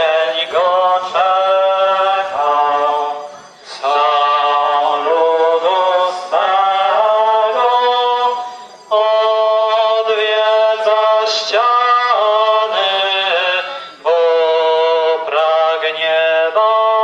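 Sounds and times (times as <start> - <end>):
voices singing a hymn in unison: 0.0 - 17.0.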